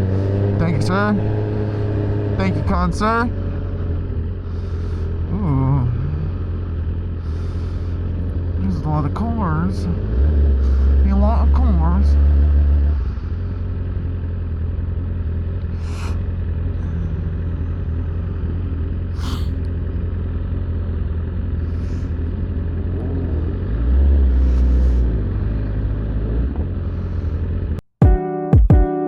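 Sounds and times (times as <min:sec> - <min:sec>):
motorcycle engine running: 0:00.0 - 0:27.8.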